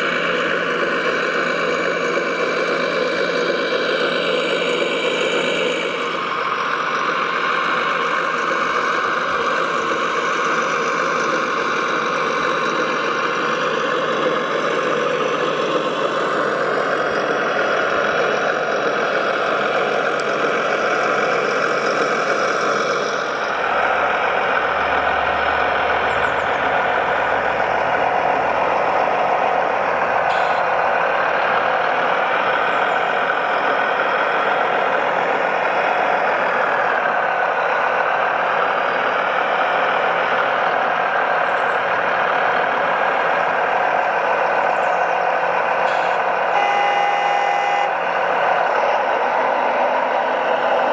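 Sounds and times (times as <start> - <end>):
deeper rumble: 0.0 - 50.9
toy truck engine: 0.0 - 50.9.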